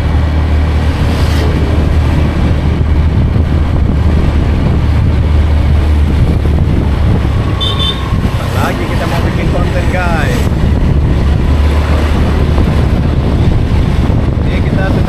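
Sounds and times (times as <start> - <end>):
engine humming: 0.0 - 15.0
wind buffeting microphone: 0.0 - 15.0.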